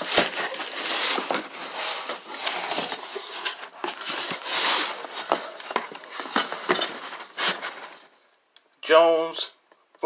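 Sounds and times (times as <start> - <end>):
cardboard box rustling and scraping: 0.0 - 8.1.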